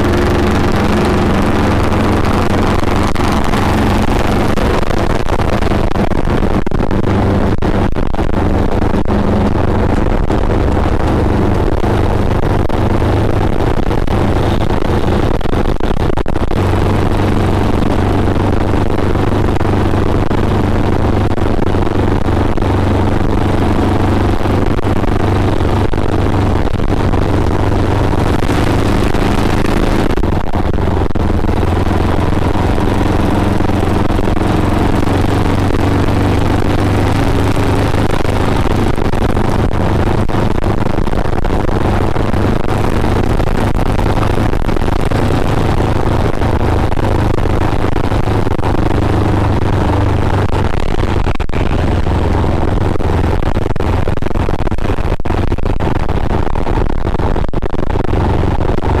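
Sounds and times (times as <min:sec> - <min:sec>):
road noise: 0:00.0 - 0:56.0
motorcycle engine running: 0:00.0 - 0:59.0.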